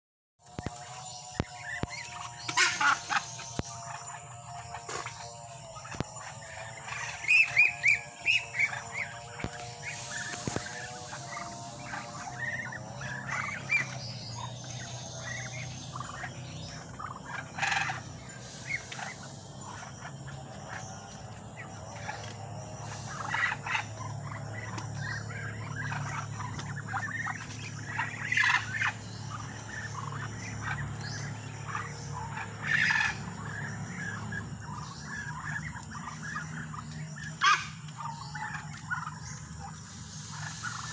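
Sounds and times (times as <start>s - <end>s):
birds chirping and calling: 0.4s - 40.9s
steady low hum: 0.4s - 40.9s.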